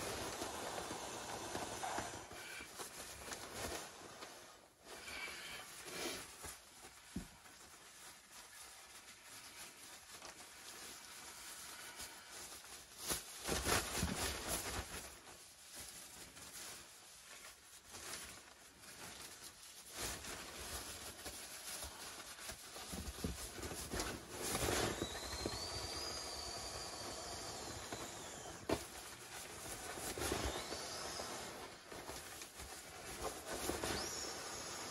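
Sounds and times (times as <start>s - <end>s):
nylon sack rustling and crinkling: 0.0s - 34.9s.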